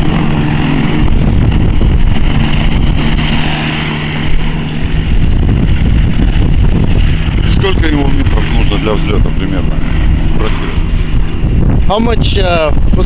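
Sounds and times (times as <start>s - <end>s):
light aircraft engine running: 0.0s - 13.0s
wind buffeting microphone: 0.0s - 13.0s.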